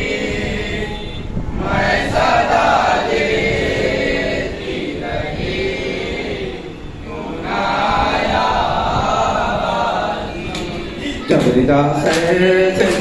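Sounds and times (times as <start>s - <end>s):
lead reciter chanting: 0.0s - 13.0s
men chanting in unison: 0.0s - 13.0s.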